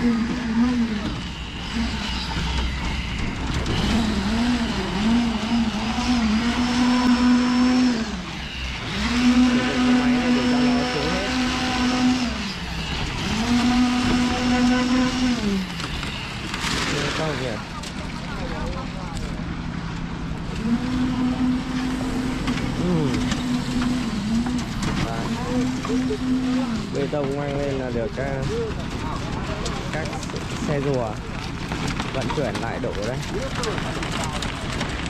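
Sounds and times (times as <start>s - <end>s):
machinery motor humming: 0.0s - 35.0s.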